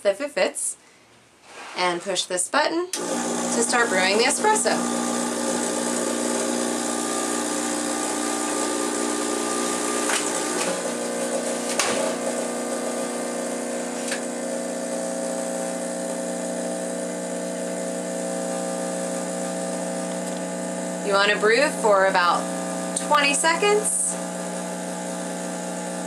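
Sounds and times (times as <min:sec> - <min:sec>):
espresso machine pump humming: 0:03.0 - 0:26.0.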